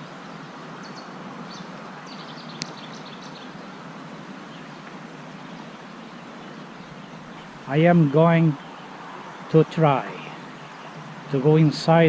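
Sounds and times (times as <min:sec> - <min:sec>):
road traffic rush: 0:00.0 - 0:12.0
songbirds chirping: 0:00.0 - 0:12.0.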